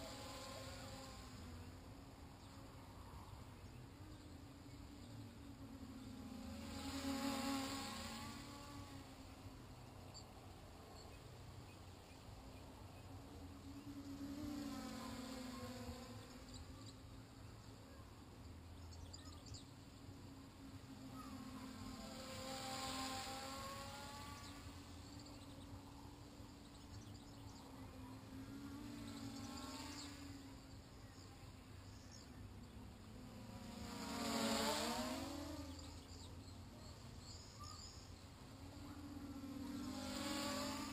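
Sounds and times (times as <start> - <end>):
small drone motors buzzing: 0.0 - 40.9.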